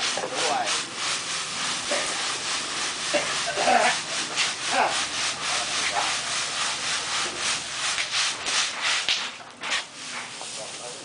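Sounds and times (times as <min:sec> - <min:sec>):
sieve tray shaken with scraping: 0:00.0 - 0:10.8
sand and grains sliding: 0:00.0 - 0:11.0.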